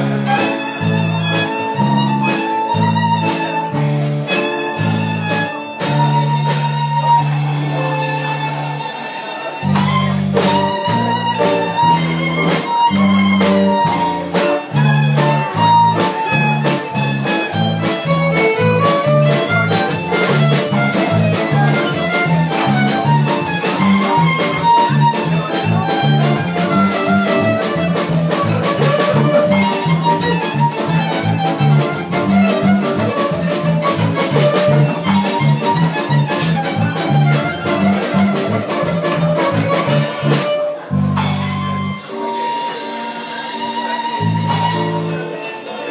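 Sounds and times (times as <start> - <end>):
electric bass guitar: 0.0 - 42.7, 43.5 - 45.9
drum kit beat: 0.0 - 45.9
violin melody: 0.0 - 45.9.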